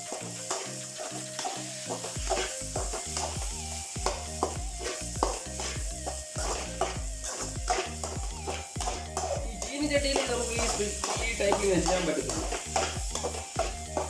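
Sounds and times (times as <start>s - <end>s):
background music with bass: 0.0s - 14.0s
rice sizzling in oil: 0.0s - 14.0s
spatula scraping a pan: 0.0s - 14.0s.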